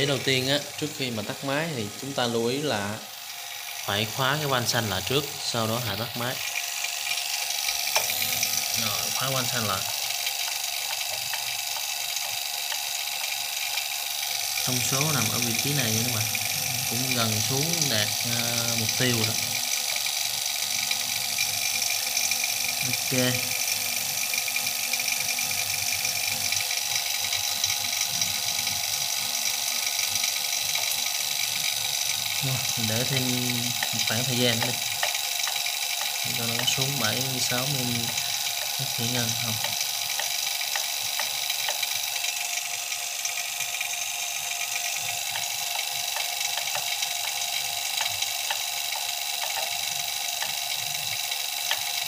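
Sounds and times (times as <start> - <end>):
vacuum pump whining: 0.0 - 52.0.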